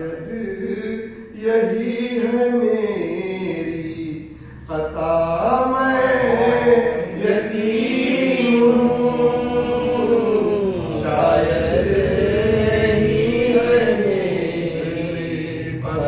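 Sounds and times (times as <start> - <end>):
man chanting a lament into a microphone: 0.0 - 16.0.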